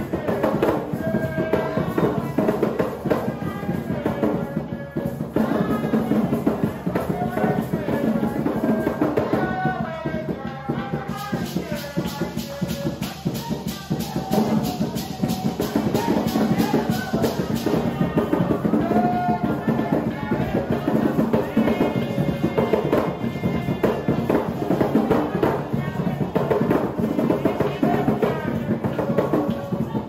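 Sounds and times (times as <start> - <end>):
group singing: 0.0 - 30.0
hand drums beating: 0.0 - 30.0
shaker rattling: 0.0 - 30.0.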